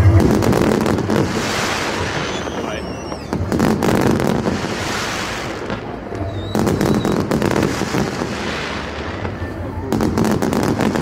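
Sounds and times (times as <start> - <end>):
fireworks bangs: 0.0 - 11.0
fireworks crackling pops: 0.0 - 11.0.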